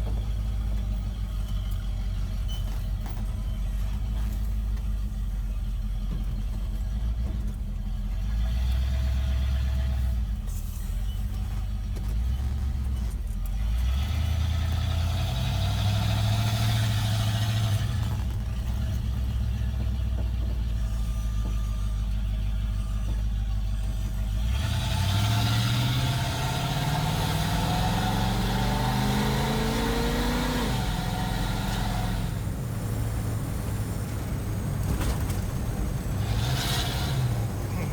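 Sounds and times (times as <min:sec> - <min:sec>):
engine exhaust drone: 0:00.0 - 0:37.9.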